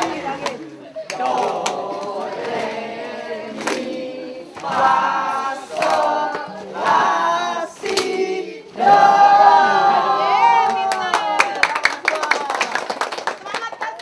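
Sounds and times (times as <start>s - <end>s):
group of voices singing: 0.0s - 11.3s.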